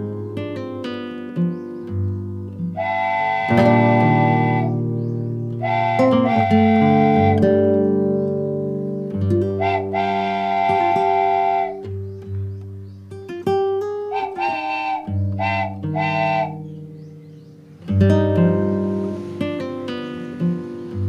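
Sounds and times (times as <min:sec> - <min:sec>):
plucked guitar-like music: 0:00.0 - 0:21.0.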